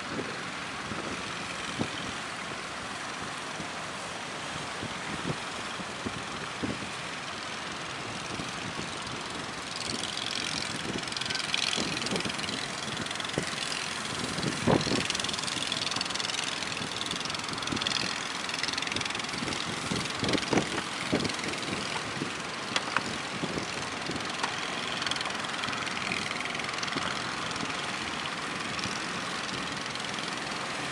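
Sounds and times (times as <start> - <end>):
boat engines running: 0.0 - 30.9
wind: 0.0 - 30.9.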